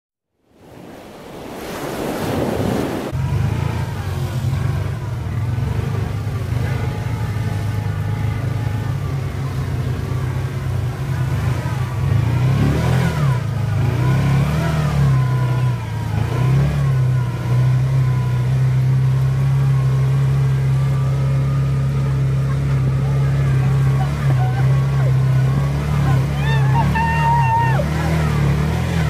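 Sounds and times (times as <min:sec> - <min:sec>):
off-road vehicle engine running: 0:03.1 - 0:29.0.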